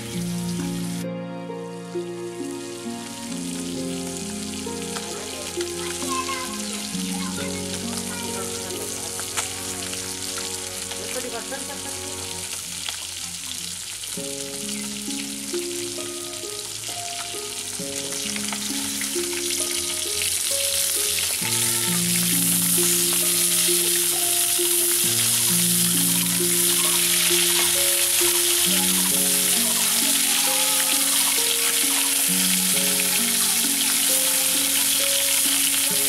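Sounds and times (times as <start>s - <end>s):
simple background melody: 0.0s - 13.0s, 14.0s - 36.0s
fish sizzling in hot oil: 2.4s - 36.0s.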